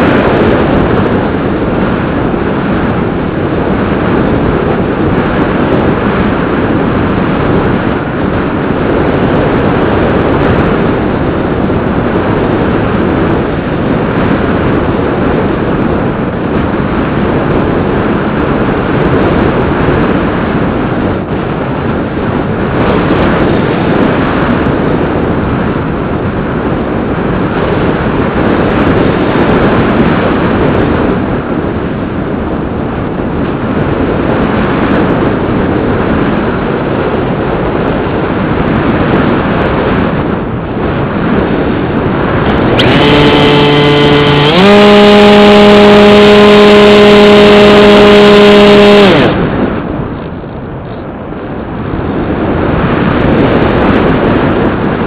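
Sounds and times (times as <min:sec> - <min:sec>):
propeller noise: 0:00.0 - 0:55.0
wind rush: 0:00.0 - 0:55.0.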